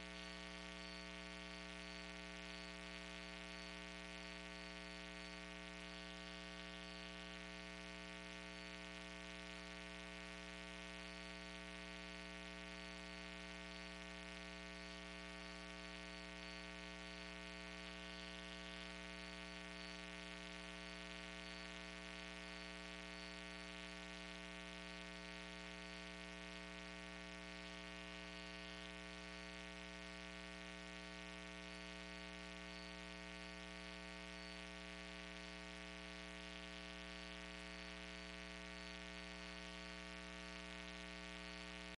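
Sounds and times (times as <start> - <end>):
electrical mains hum: 0.0 - 41.9
faint high whine: 0.0 - 41.9.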